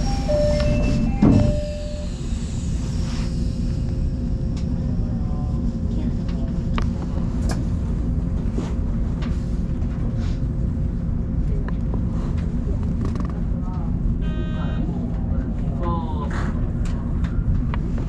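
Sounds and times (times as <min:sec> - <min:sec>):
train wheels rumbling on rails: 0:00.0 - 0:14.2, 0:14.9 - 0:18.0.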